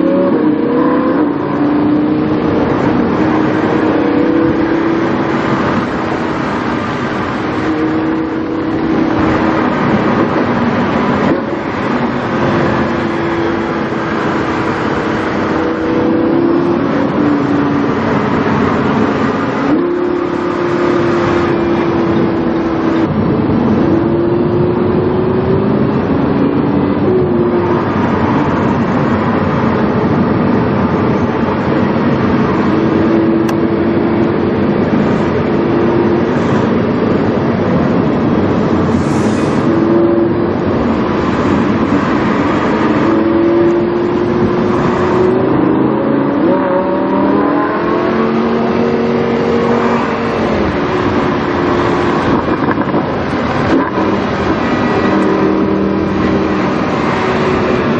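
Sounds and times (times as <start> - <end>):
road and wind noise: 0.0 - 57.9.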